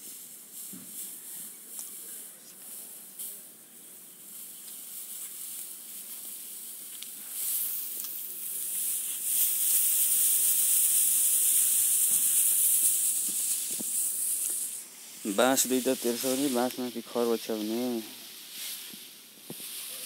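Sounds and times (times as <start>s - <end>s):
dry straw rustling: 0.0s - 20.0s.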